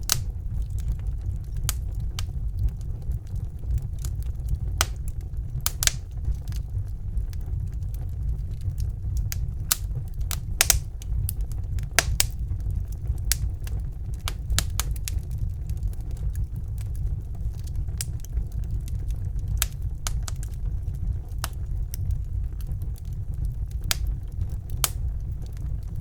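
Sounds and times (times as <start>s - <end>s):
flames rumbling: 0.0s - 26.0s
wood fire crackling and popping: 0.0s - 26.0s.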